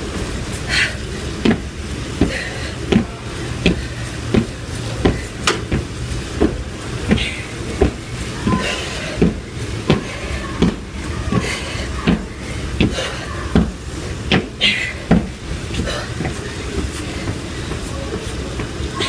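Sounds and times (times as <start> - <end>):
steady low rumble: 0.0 - 19.0
feet thudding on tiled floor: 1.4 - 17.9.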